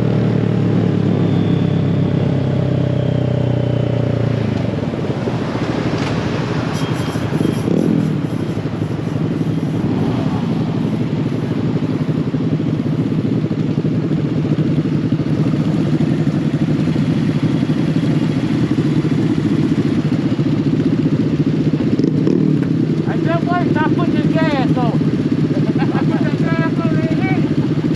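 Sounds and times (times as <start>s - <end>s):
mini bike engine running: 4.8s - 27.9s.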